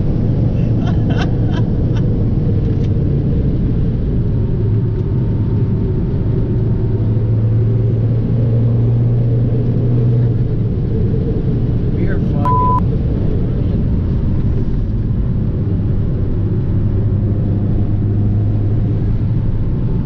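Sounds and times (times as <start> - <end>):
car engine running: 0.0 - 20.0
tyre and road noise: 0.0 - 20.0.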